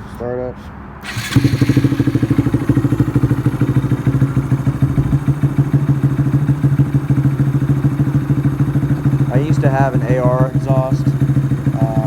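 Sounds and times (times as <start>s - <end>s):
motorcycle engine idling: 1.0s - 12.0s.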